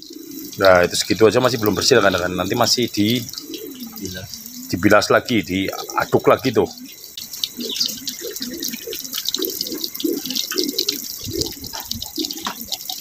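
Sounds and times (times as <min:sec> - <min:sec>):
water sloshing with corn kernels: 0:00.0 - 0:13.0.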